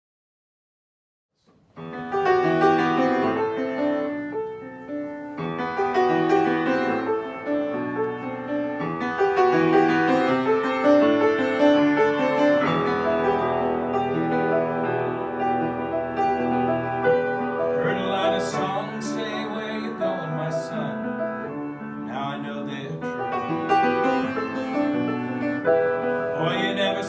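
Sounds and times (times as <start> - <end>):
slow solo piano: 1.5 - 27.0.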